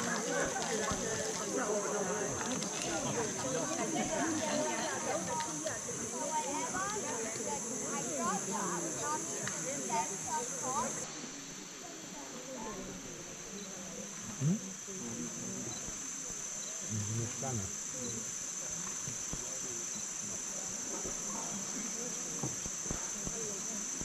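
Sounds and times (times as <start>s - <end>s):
faint murmuring voices: 0.0s - 24.0s
insect chorus: 0.0s - 24.0s.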